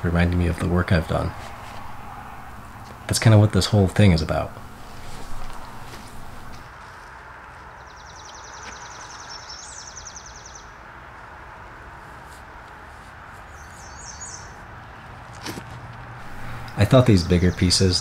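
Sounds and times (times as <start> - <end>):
outdoor background hiss: 0.0 - 15.0, 16.0 - 18.0.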